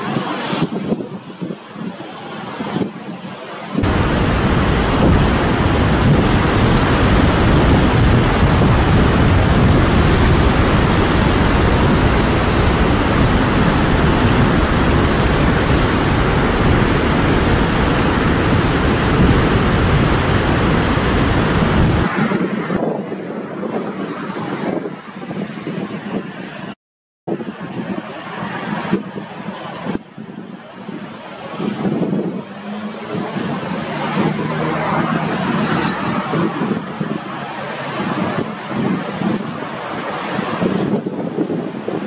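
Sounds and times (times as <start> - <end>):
surf breaking over rocks: 3.6 - 24.8, 27.4 - 42.0.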